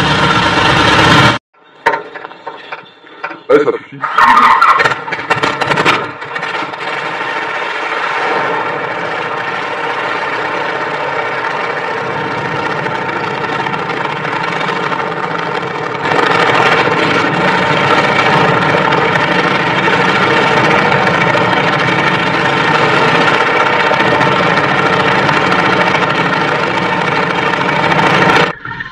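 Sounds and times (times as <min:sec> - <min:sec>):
engine running: 0:00.0 - 0:03.8, 0:04.6 - 0:28.9.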